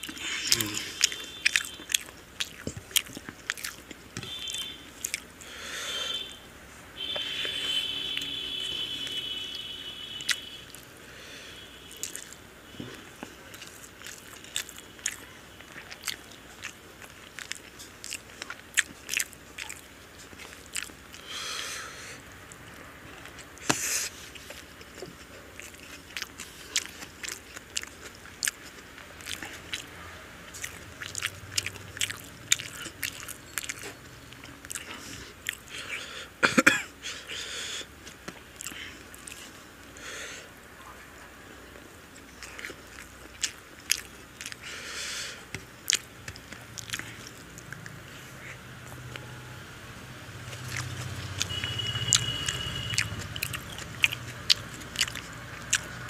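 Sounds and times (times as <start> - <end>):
man chewing with wet smacks: 0.0 - 6.4, 7.0 - 11.0, 11.6 - 21.3, 22.4 - 40.0, 41.7 - 49.4, 50.2 - 56.0.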